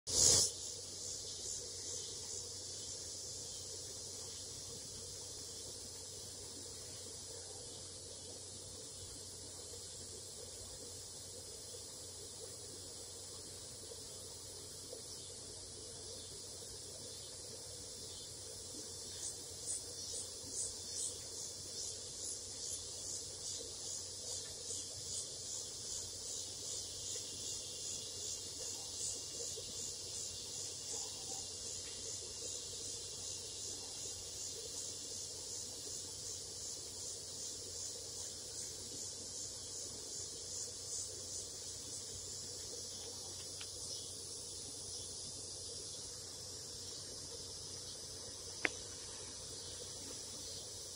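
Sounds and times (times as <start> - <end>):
rhythmic pulsing insect call: 0.1 - 50.9
steady high insect trill: 0.1 - 50.9.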